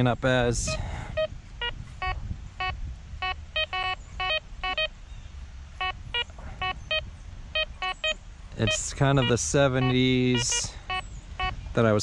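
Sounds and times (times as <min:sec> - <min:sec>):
metal detector beeping: 0:00.6 - 0:05.0, 0:05.8 - 0:11.6.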